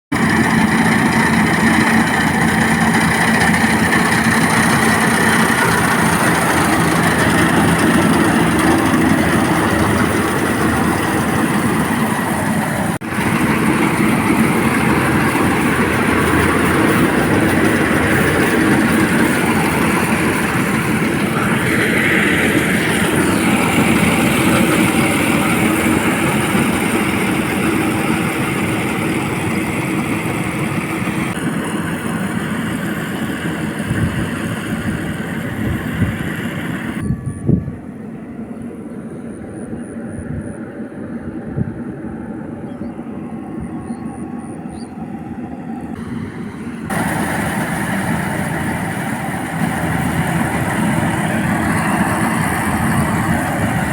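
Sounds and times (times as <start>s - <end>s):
harvesting machine running: 0.1s - 38.4s, 41.5s - 53.9s.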